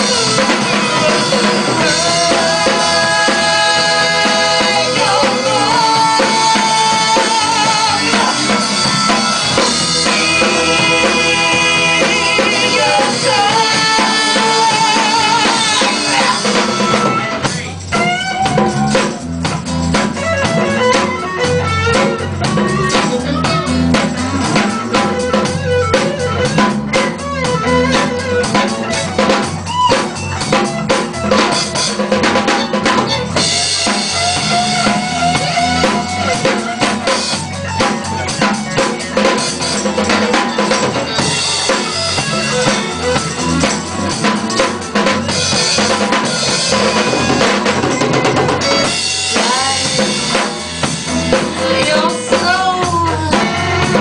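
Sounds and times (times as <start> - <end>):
drums and bass: 0.0 - 54.0
rock band playing: 0.0 - 54.0.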